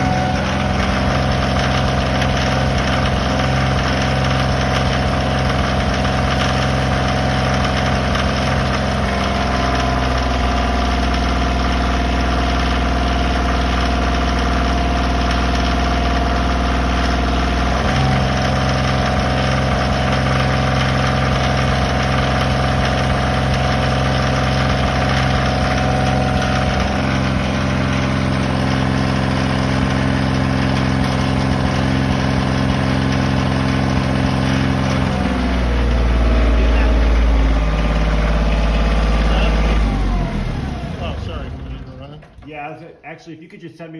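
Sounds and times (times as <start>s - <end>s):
engine knocking: 0.0s - 42.5s
engine running: 0.0s - 43.2s.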